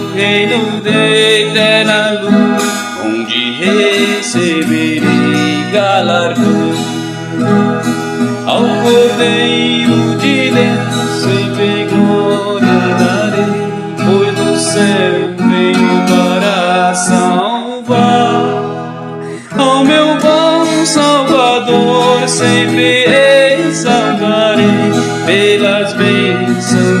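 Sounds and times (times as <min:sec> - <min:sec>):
folk guitar hymn melody: 0:00.0 - 0:27.0
guitar bass accompaniment: 0:00.0 - 0:27.0.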